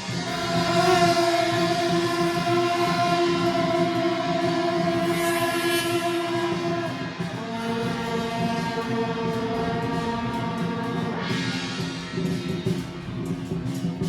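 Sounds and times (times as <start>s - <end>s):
drum and percussion strokes: 0.0s - 14.0s
wind instruments holding long notes: 0.0s - 14.0s.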